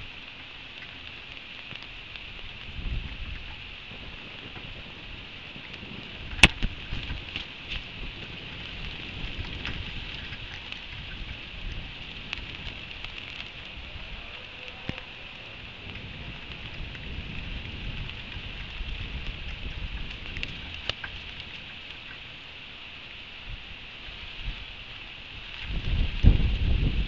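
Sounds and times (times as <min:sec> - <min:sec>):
rain drops tapping on metal: 0:00.0 - 0:27.0
steady rain hiss: 0:00.0 - 0:27.0.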